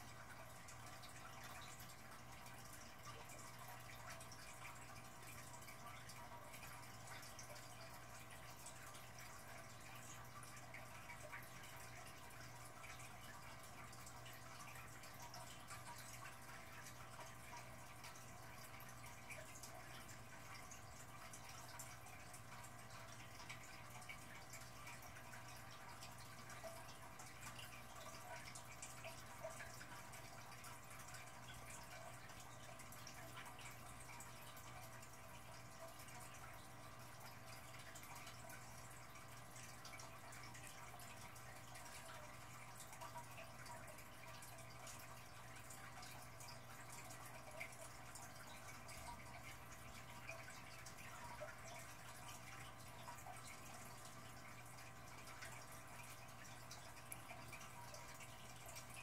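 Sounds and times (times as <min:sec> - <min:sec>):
low steady hum: 0:00.0 - 0:59.0
water drips and trickles: 0:00.0 - 0:59.0.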